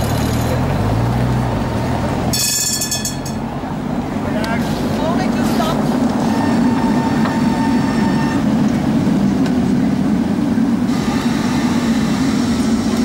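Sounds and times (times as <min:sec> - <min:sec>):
trams rumbling on rails: 0:00.0 - 0:13.0.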